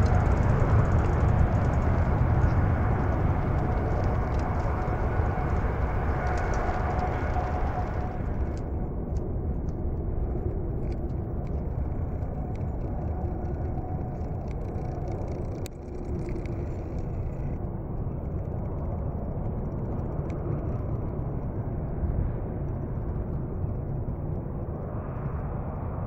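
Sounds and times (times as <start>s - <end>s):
distant jet engines roaring: 0.0s - 26.0s.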